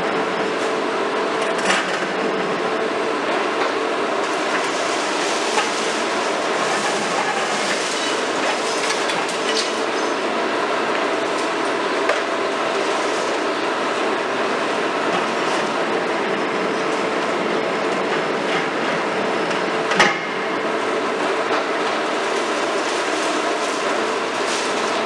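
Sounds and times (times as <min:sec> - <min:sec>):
excavator engine and hydraulics: 0:00.0 - 0:25.0.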